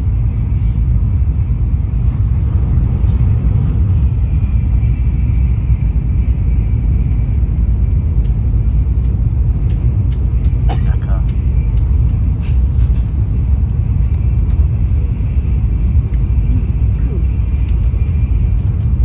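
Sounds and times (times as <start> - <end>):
low rumble inside train cabin: 0.0 - 19.0.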